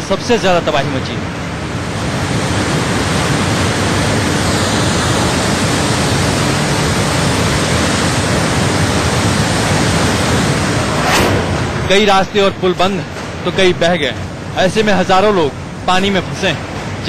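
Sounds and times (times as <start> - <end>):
flood torrent rushing: 0.0 - 17.0.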